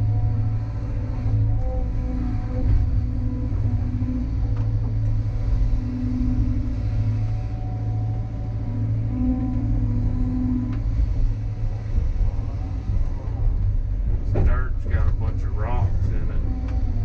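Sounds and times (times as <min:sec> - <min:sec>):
excavator diesel engine under load: 0:00.0 - 0:17.0
hydraulic whine: 0:00.0 - 0:17.0.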